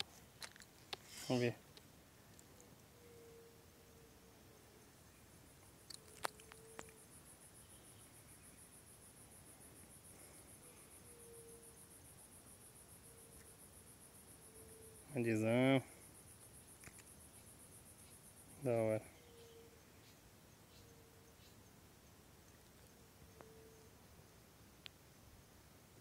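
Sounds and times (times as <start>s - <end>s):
high-pitched insect trill: 2.9s - 24.0s.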